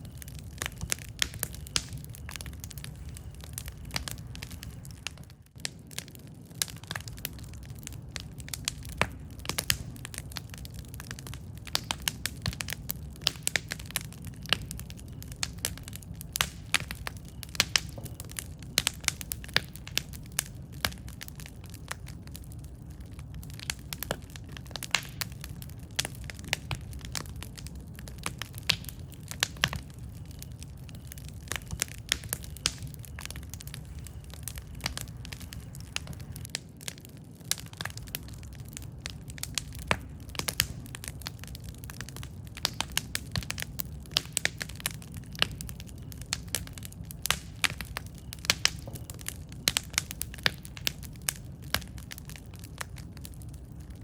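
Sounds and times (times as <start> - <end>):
low rumble of flames: 0.0 - 54.0
wood crackling and popping: 0.0 - 54.0.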